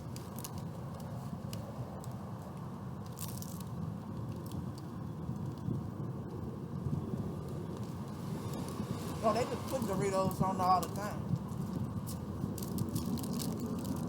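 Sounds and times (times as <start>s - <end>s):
crunchy taco shells being chewed: 0.0s - 10.0s, 10.8s - 14.0s
low background rumble: 0.0s - 14.0s.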